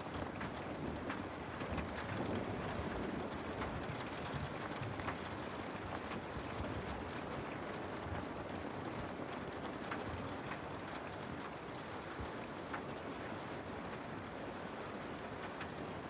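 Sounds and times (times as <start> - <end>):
rain falling on a window: 0.0 - 16.0.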